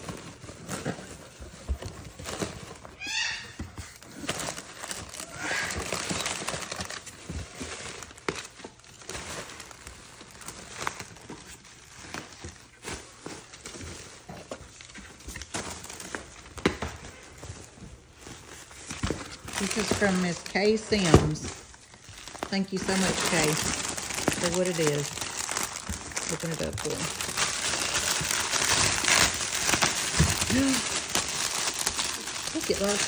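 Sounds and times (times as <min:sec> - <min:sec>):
cardboard and plastic rustling: 0:00.0 - 0:33.0.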